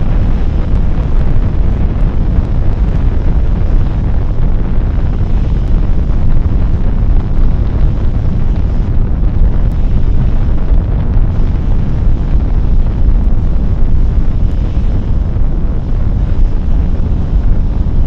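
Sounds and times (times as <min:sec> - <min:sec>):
rocket engines roaring: 0:00.0 - 0:18.0.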